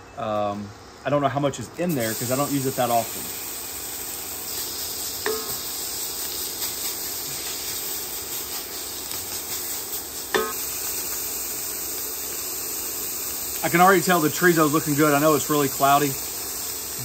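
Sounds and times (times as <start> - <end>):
sausage sizzling in skillet: 1.8 - 17.0.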